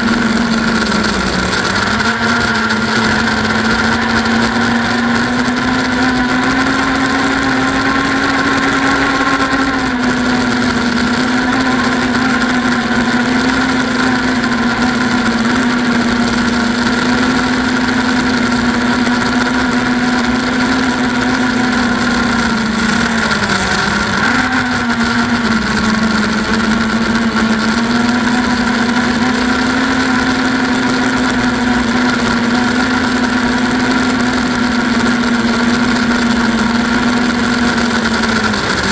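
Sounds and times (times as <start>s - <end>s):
quadcopter motors whining: 0.0s - 38.9s.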